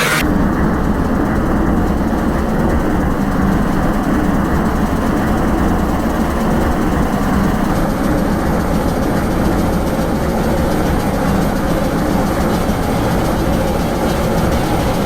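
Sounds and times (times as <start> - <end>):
low rumbling industrial drone: 0.0 - 15.0.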